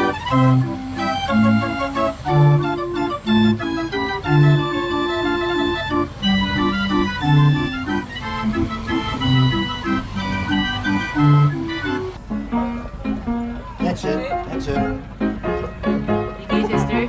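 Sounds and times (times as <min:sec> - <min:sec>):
mechanical street organ playing: 0:00.0 - 0:17.0.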